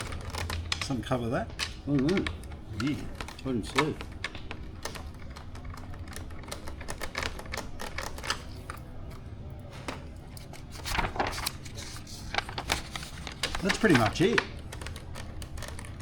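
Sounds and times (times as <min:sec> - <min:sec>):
plastic parts being handled: 0:00.0 - 0:08.8, 0:10.4 - 0:16.0.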